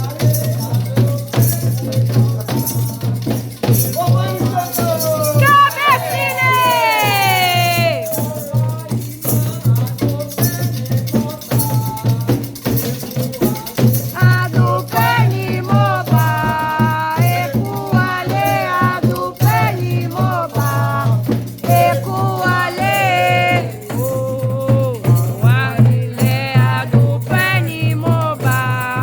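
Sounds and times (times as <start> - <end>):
rattle shaken in rhythm: 0.0 - 29.0
voices singing a chant: 0.0 - 29.0.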